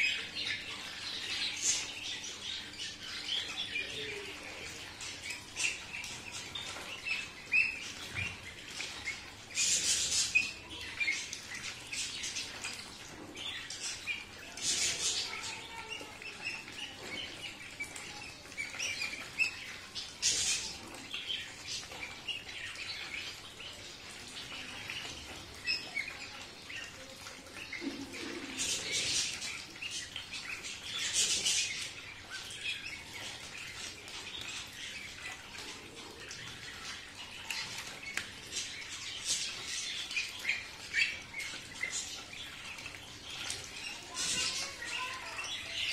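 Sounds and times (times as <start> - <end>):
ducklings peeping: 0.0 - 45.9.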